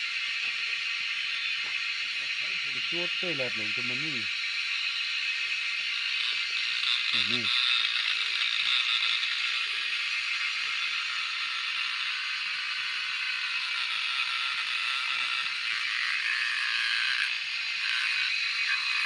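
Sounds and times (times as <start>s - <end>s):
cicadas buzzing: 0.0s - 19.0s
lower-pitched buzz: 0.0s - 19.0s.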